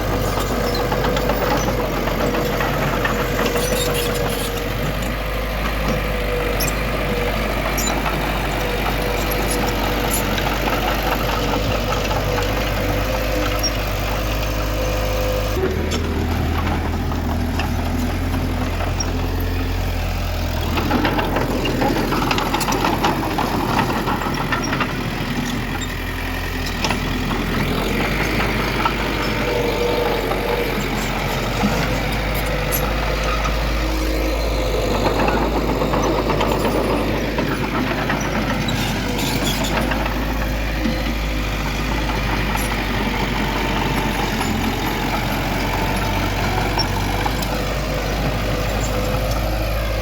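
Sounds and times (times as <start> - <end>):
heavy diesel machinery running: 0.0 - 50.0.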